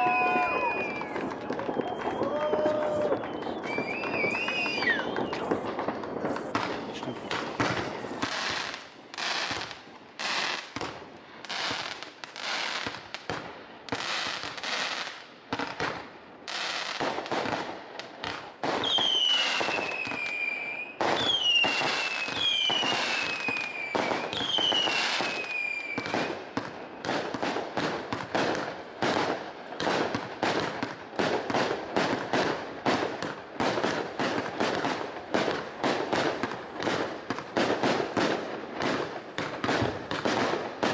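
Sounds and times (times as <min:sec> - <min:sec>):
fireworks bursts and crackling: 0:00.0 - 0:40.9
whistling fireworks falling in pitch: 0:00.0 - 0:40.9.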